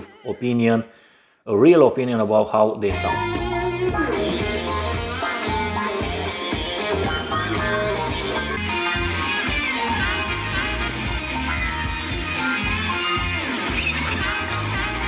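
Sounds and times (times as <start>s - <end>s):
bass-heavy music through speakers: 2.9s - 15.0s.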